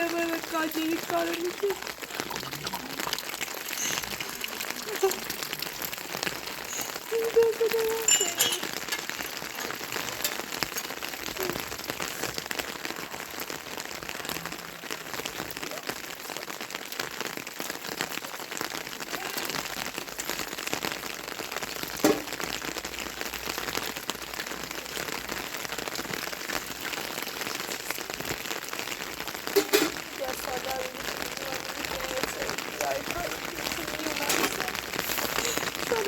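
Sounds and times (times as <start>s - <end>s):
rain falling on a surface: 0.0s - 36.0s.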